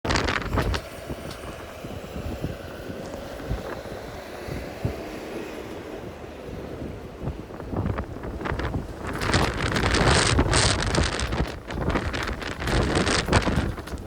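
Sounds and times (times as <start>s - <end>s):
blizzard wind rumbling: 0.0s - 14.0s.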